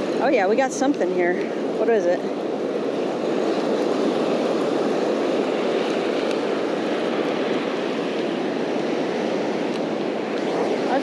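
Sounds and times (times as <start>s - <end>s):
surf breaking on beach: 0.0s - 11.0s
wind on microphone: 0.0s - 11.0s.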